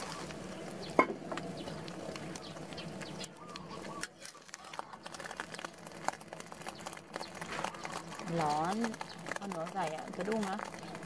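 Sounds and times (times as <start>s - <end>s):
birds calling: 0.0s - 11.0s
oil sizzling and crackling: 0.0s - 11.0s.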